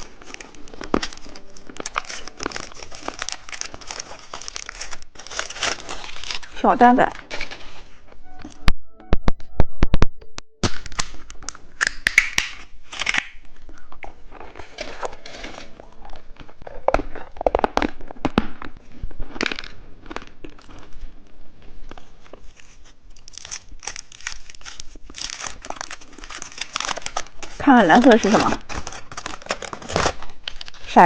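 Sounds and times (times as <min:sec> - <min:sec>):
plastic wrappers crinkling and tearing: 0:00.0 - 0:08.1, 0:10.6 - 0:31.0.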